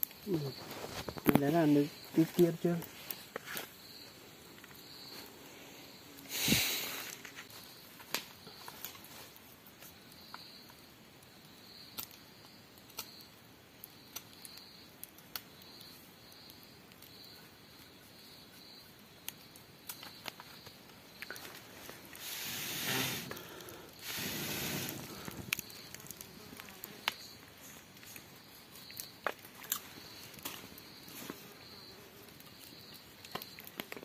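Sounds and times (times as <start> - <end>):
faint insect chirping: 0.0 - 34.0
fire popping: 0.0 - 34.0
wood fire crackling: 0.0 - 34.0.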